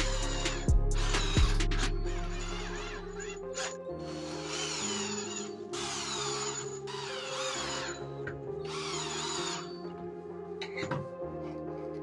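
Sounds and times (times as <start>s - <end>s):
small power tool whining: 0.0s - 10.0s
background music: 0.0s - 12.0s.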